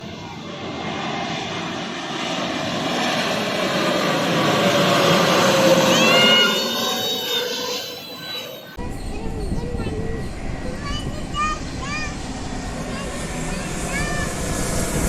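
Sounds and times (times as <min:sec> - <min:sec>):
airliner engines passing overhead: 0:00.0 - 0:15.0
high whine rising: 0:00.0 - 0:15.0.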